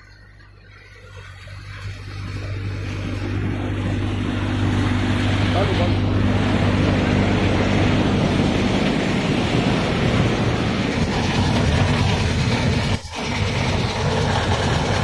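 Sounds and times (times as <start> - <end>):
tractor engine drone: 0.0 - 15.0
threshing machinery rushing: 1.4 - 15.0.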